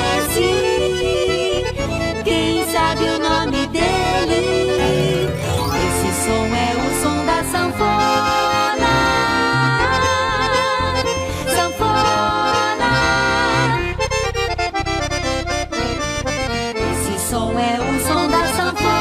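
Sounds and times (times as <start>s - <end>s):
piano accordion lively tune: 0.0s - 19.0s.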